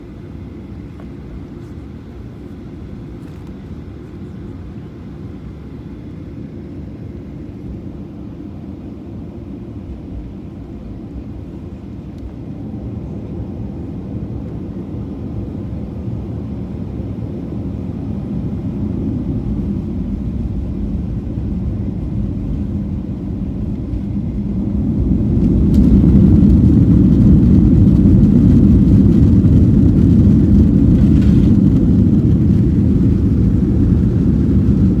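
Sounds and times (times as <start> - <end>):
airplane engines rumbling: 0.0 - 35.0.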